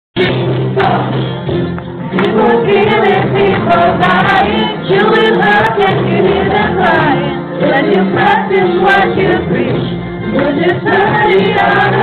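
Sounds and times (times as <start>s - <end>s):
acoustic guitar: 0.2s - 12.0s
group of voices singing: 0.2s - 12.0s.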